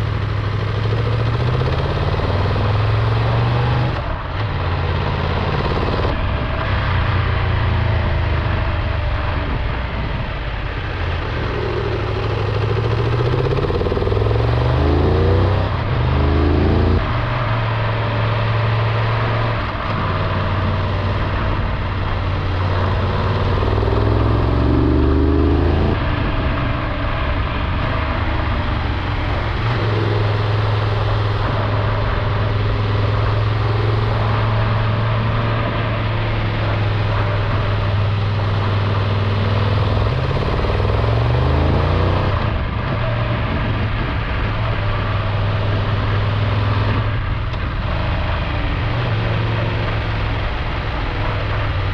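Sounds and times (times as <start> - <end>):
motorcycle engine shifting gears: 0.0 - 51.9
rushing wind noise: 0.0 - 51.9.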